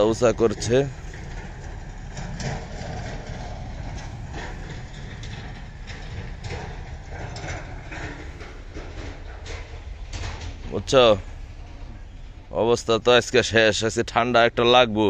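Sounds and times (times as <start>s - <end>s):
diesel machinery running: 0.0s - 15.0s.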